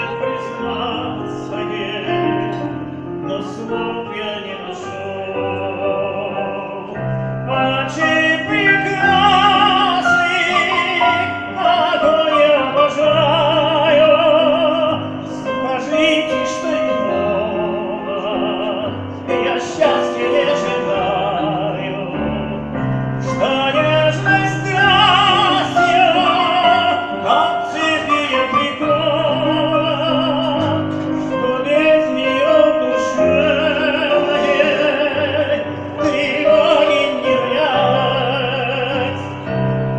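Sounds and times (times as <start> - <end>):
operatic singing: 0.0 - 39.9
piano accompaniment: 0.0 - 39.9.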